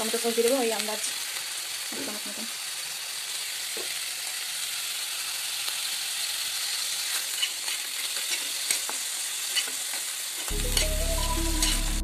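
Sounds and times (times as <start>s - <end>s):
spices sizzling in oil: 0.0s - 12.0s.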